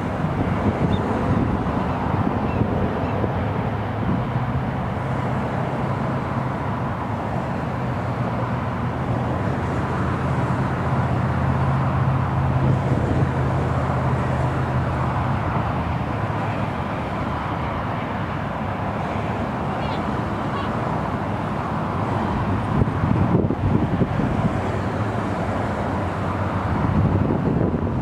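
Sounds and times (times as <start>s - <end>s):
low engine drone: 0.0s - 28.0s.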